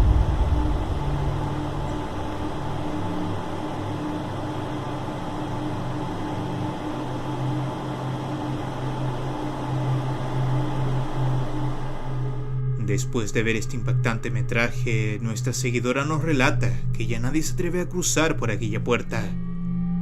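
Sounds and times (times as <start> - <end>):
steady low hum with hiss: 0.0 - 19.5.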